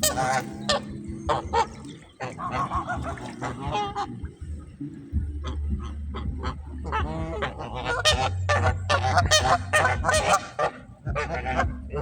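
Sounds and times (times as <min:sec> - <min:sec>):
waterfowl honking: 0:00.0 - 0:04.4, 0:05.3 - 0:12.0
steady low rumble: 0:00.0 - 0:12.0.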